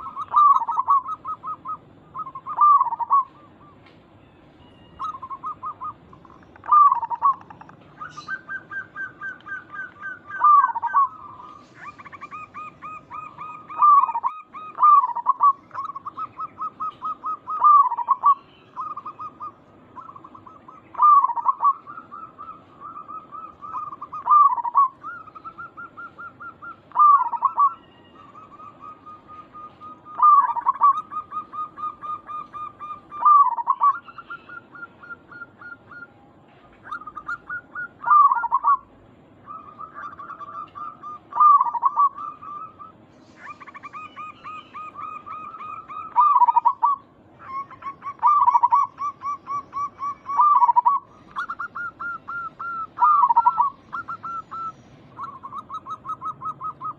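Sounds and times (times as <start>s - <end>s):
dove cooing: 0.0s - 4.0s, 4.7s - 56.9s.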